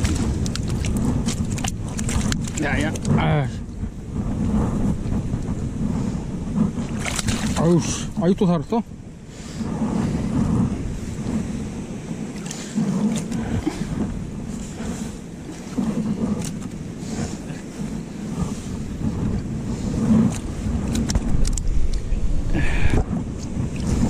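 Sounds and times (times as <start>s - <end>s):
sea surf on rocks: 0.0s - 24.0s
wind buffeting microphone: 0.0s - 24.0s.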